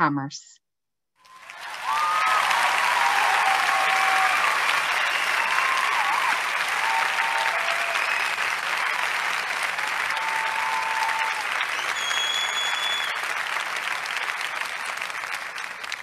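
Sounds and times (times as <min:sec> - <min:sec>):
audience applauding: 0:01.2 - 0:16.0.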